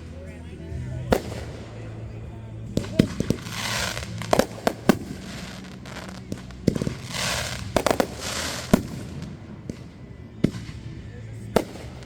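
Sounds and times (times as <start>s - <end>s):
fireworks bangs: 0.8s - 12.0s
fireworks hissing crackle: 1.0s - 12.0s.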